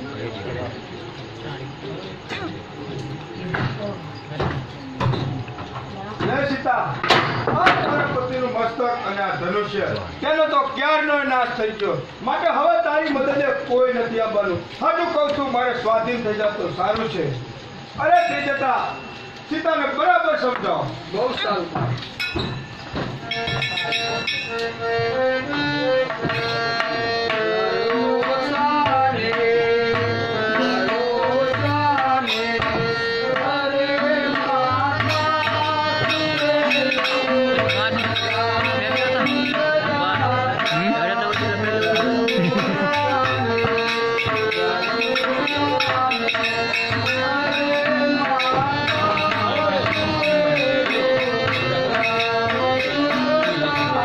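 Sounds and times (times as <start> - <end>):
tabla rhythm: 2.2 - 54.0.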